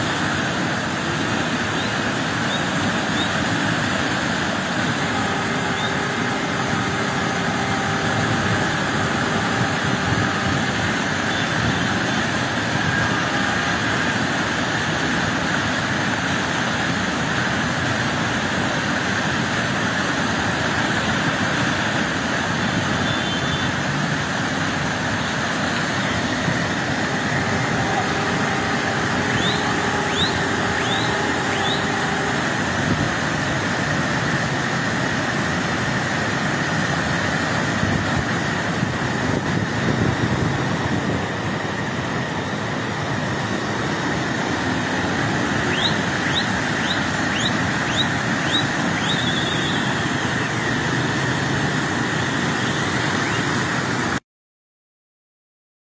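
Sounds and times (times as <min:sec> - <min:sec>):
stream rushing over rocks: 0:00.0 - 0:54.2.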